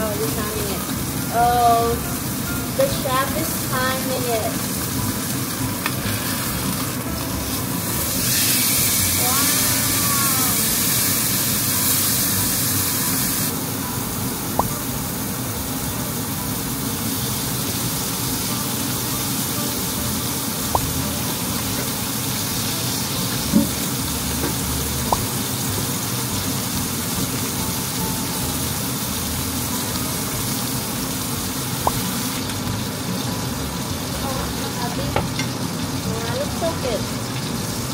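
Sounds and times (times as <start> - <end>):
steak sizzling in a frying pan: 0.0 - 37.9.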